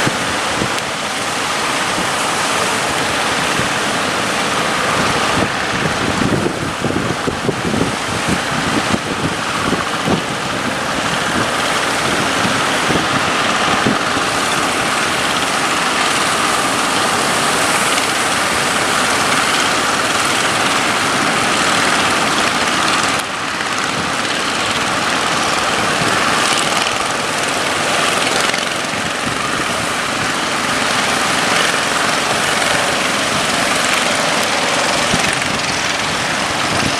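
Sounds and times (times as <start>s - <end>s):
boat engine running: 0.0s - 36.9s
water rushing: 0.0s - 36.9s
wind noise: 0.0s - 36.9s.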